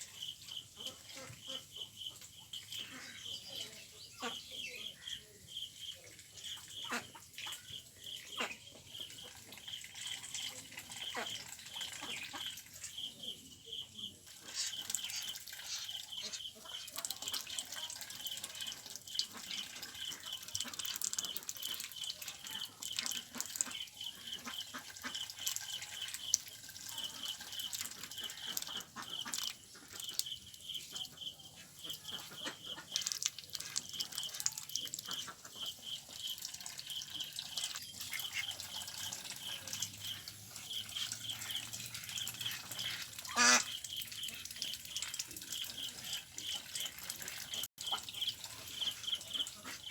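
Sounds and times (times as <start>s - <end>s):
water splashing and dripping: 0.0s - 49.9s.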